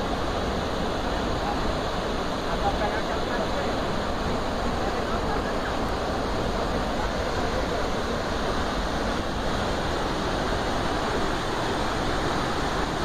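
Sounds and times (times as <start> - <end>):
waterfall and river rapids roaring: 0.0 - 13.0.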